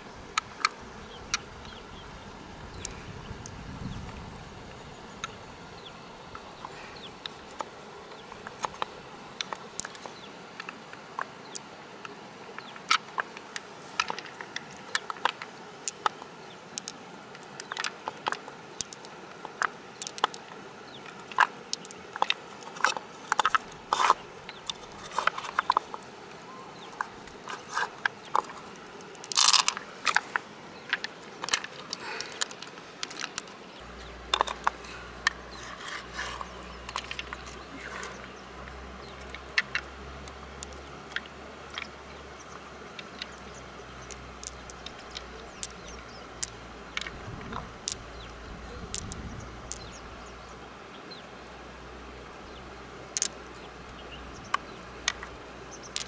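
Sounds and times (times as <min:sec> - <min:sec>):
pearls clicking together: 0:06.3 - 0:11.7, 0:12.6 - 0:26.0, 0:26.8 - 0:50.6, 0:53.0 - 0:56.0.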